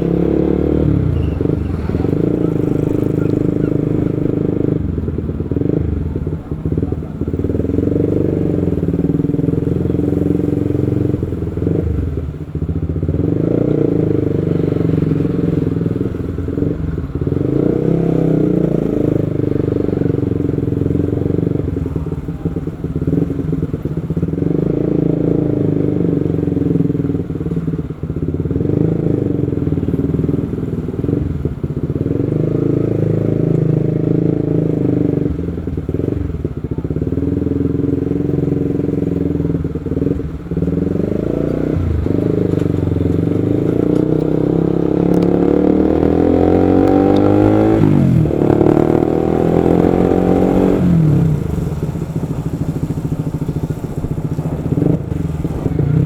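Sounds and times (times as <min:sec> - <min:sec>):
motorcycle engine revving: 0:00.0 - 0:56.0
road and wind rumble: 0:00.0 - 0:56.0.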